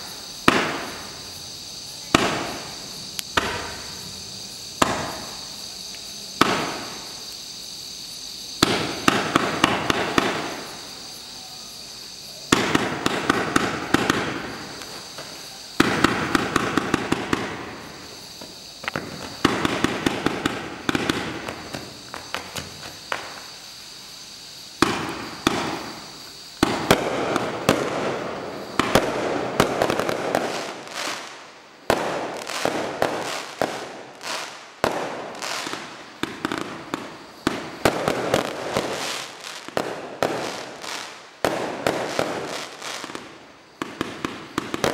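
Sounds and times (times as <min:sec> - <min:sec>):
fireworks shots firing: 0:00.0 - 0:01.1, 0:02.1 - 0:03.9, 0:04.8 - 0:05.4, 0:06.4 - 0:07.1, 0:08.6 - 0:10.8, 0:12.5 - 0:23.4, 0:24.8 - 0:44.9.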